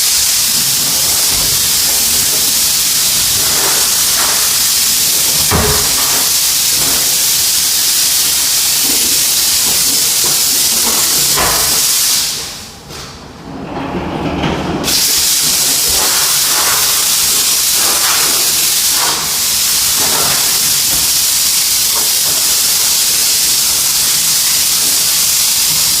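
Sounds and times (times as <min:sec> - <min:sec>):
steam cleaner hissing: 0:00.0 - 0:12.9, 0:14.8 - 0:26.0.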